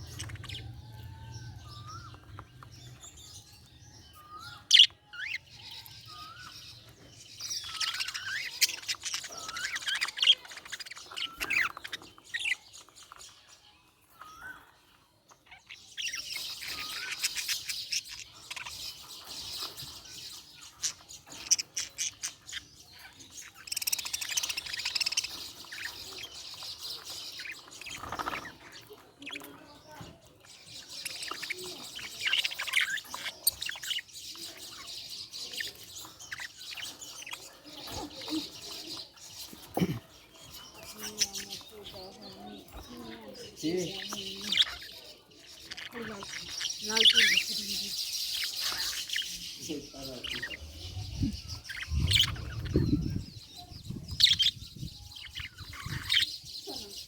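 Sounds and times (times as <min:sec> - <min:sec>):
budgie chirping and warbling: 0:00.0 - 0:13.4, 0:15.4 - 0:29.8, 0:30.4 - 0:57.0.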